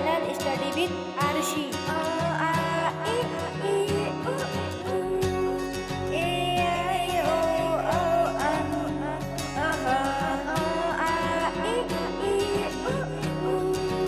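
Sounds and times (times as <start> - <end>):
melody over plucked strings: 0.0 - 14.0.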